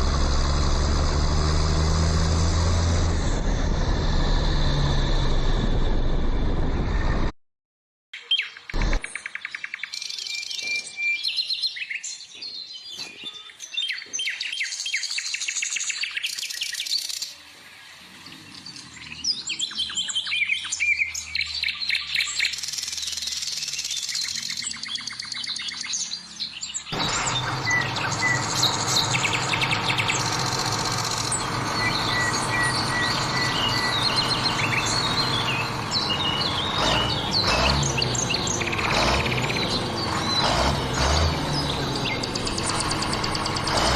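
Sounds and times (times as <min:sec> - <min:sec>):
small birds chirping: 0:08.2 - 0:43.9.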